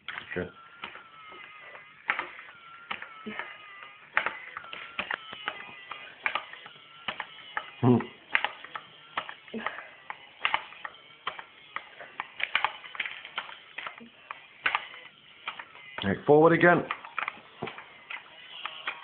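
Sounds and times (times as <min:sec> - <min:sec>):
plastic gears clicking: 0:00.1 - 0:16.1, 0:16.8 - 0:19.0.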